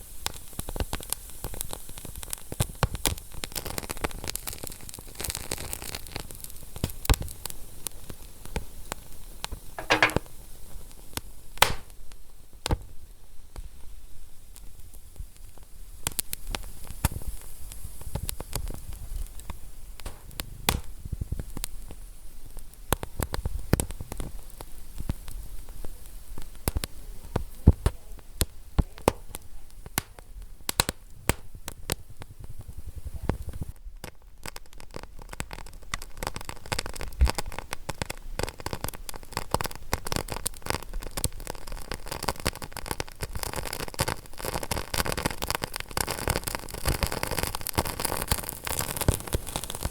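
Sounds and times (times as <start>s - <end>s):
wood fire crackling: 0.1s - 12.9s, 13.6s - 49.9s.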